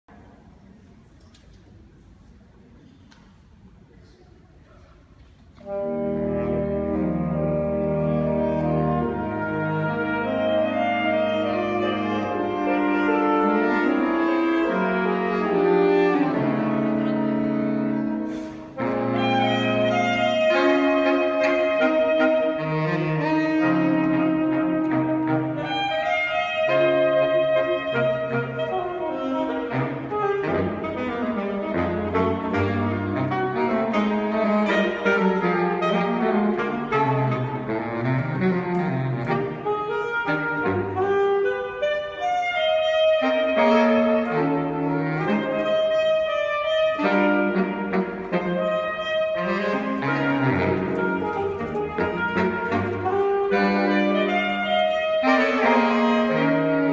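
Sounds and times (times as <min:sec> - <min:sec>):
saxophone quartet playing: 0:05.6 - 0:56.9.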